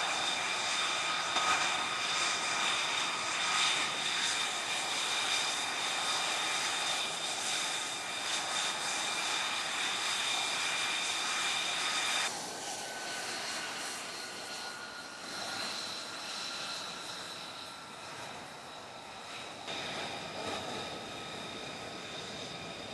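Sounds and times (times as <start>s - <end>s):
jet engine whine: 0.0s - 22.9s.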